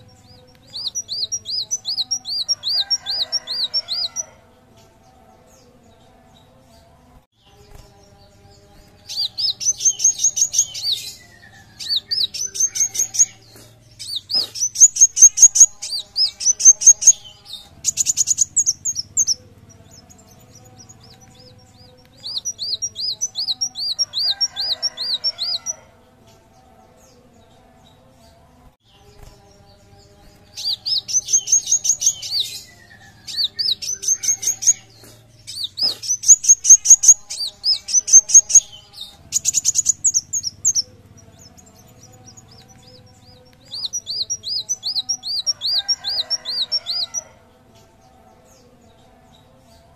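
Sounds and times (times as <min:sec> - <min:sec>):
sunbird chirping: 0:00.0 - 0:05.0, 0:07.4 - 0:25.8, 0:28.9 - 0:47.2.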